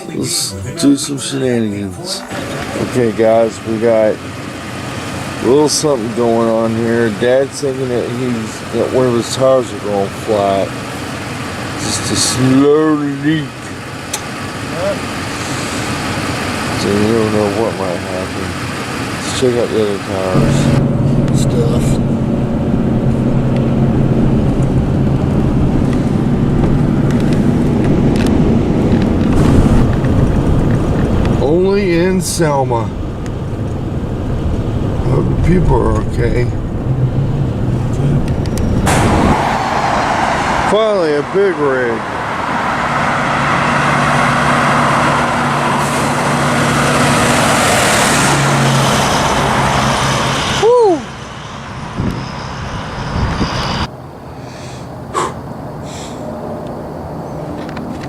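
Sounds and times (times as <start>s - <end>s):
car engine hum: 0.0s - 58.0s
constant rumbling noise: 0.0s - 58.0s
tyre and road noise: 0.0s - 58.0s.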